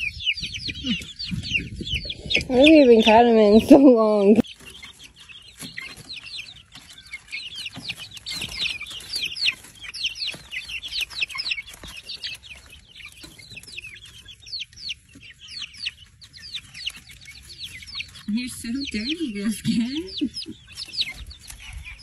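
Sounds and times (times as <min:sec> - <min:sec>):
chickens peeping and clucking: 0:00.0 - 0:22.0.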